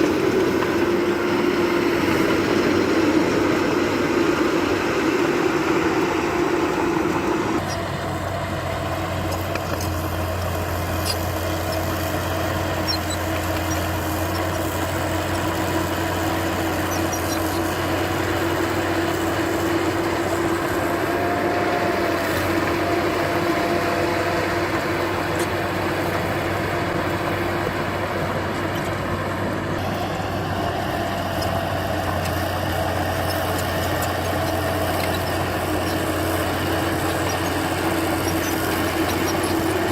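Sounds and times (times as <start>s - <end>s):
diesel engine of earthmover running: 0.0s - 39.9s.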